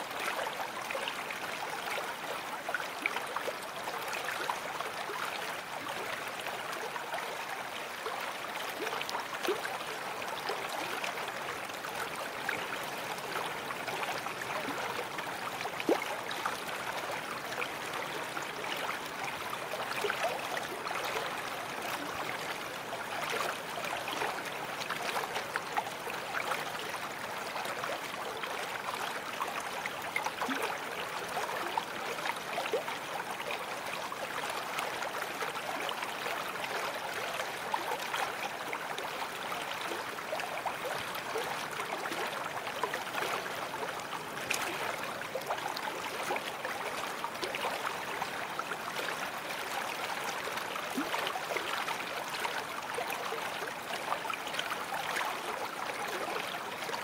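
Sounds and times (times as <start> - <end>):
brook water flowing: 0.0 - 57.0.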